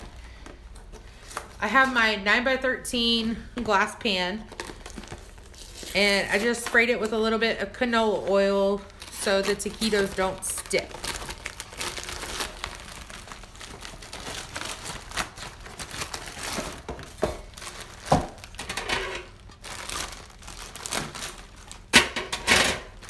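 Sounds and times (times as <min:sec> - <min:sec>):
plastic bag crinkling: 0:04.4 - 0:23.0.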